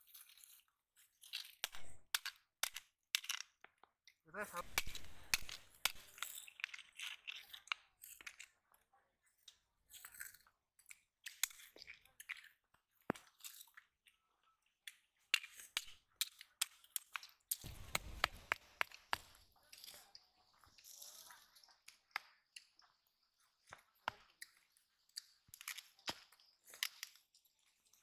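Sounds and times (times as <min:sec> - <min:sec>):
stone crushing snail shell: 0:00.0 - 0:08.6, 0:09.4 - 0:14.0, 0:14.8 - 0:23.0, 0:23.6 - 0:28.0.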